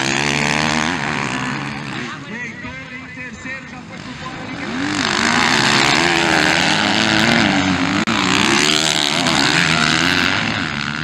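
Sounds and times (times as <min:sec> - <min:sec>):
motocross bikes racing past: 0:00.0 - 0:11.0.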